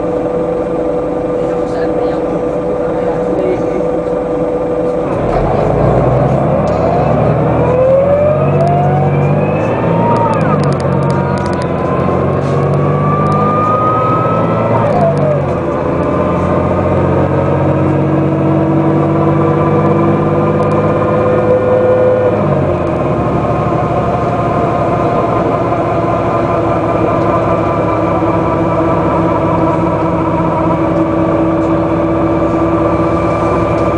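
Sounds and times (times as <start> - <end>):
bus engine accelerating: 0.0 - 33.9.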